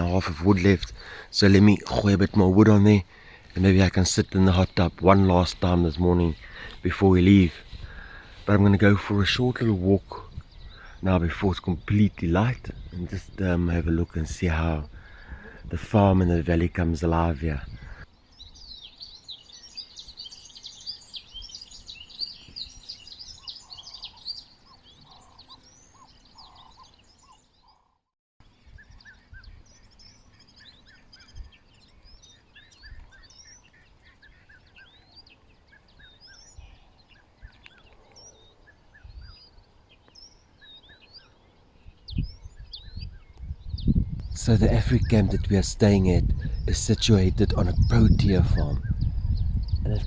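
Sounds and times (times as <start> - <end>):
birds chirping and twittering: 0.0 - 50.0.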